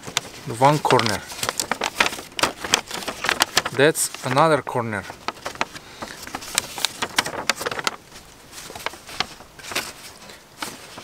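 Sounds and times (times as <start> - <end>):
paper folding rustles: 0.0 - 11.0.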